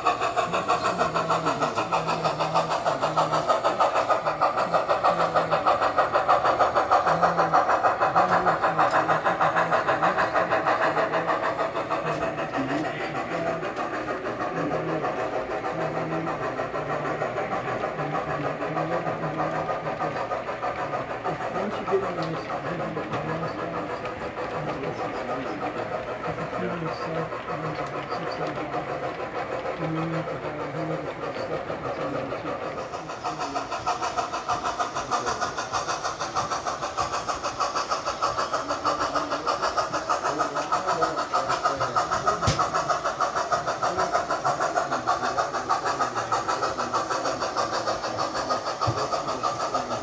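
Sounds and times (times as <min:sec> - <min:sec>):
model train wheels clattering on rails: 0:00.0 - 0:50.0.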